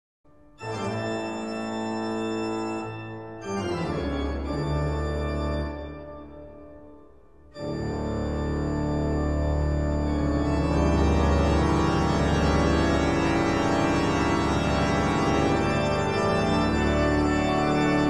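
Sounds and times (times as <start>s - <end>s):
pipe organ chords: 0.5s - 18.0s.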